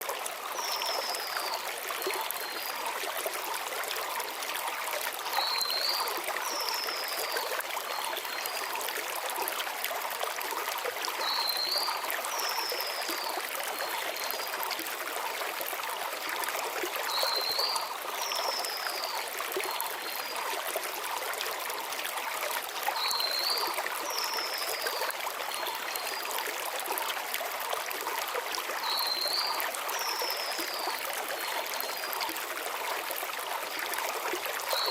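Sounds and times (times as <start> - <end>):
river flowing over stones: 0.0 - 34.9.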